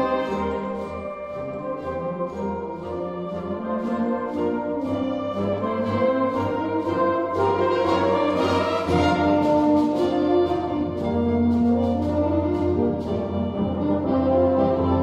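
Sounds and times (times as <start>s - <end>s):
brass fanfare band chords: 0.0s - 15.0s.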